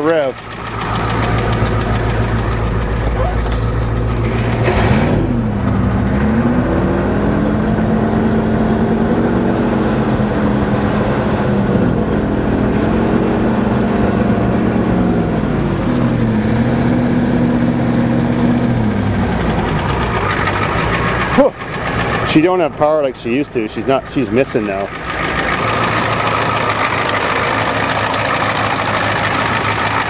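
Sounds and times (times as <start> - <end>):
truck engine revving and misfiring: 0.0 - 30.0.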